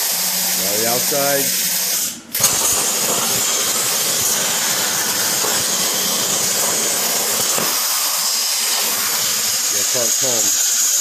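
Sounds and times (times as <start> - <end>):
plasma cutter torch hissing: 0.0 - 11.0.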